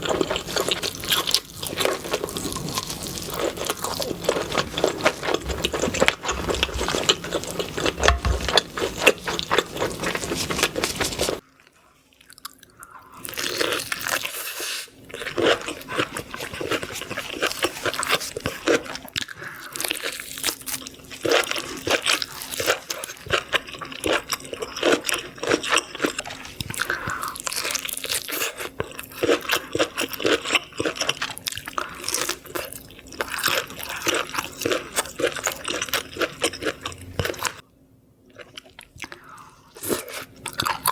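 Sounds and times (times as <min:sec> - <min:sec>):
person crunching and chewing: 0:00.0 - 0:37.6, 0:38.3 - 0:40.9.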